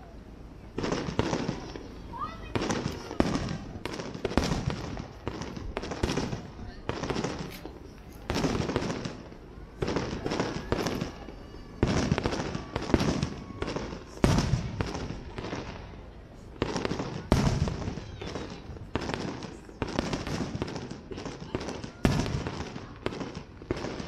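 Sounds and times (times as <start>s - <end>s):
firework booms with echo: 0.8s - 24.0s.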